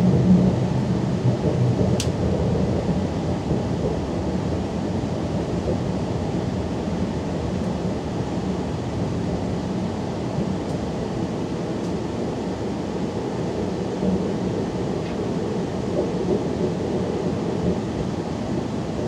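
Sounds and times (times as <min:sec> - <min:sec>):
train wheels on rails rumbling: 0:00.0 - 0:19.0.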